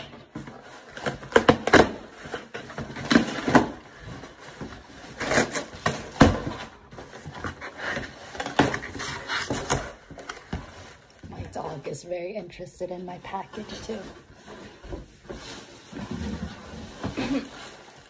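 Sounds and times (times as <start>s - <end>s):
cardboard scraping and rustling: 0.0s - 11.8s, 13.3s - 18.0s.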